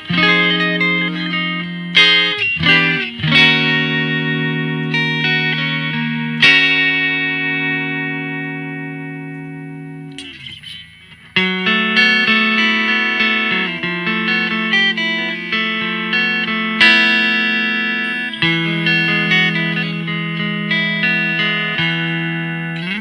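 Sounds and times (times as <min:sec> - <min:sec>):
clean electric guitar playing: 0:00.0 - 0:23.0.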